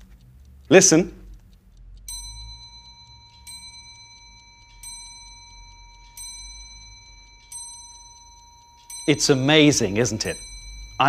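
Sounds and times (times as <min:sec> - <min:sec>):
clock striking: 0:00.0 - 0:11.0.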